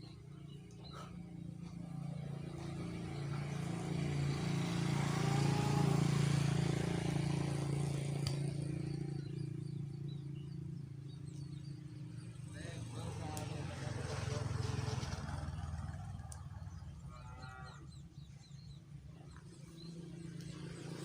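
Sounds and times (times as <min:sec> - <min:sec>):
vehicle passing by: 0:00.1 - 0:21.0.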